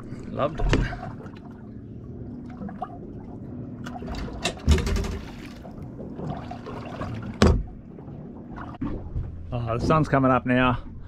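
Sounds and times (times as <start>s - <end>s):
water lapping around boat hull: 0.0s - 11.0s.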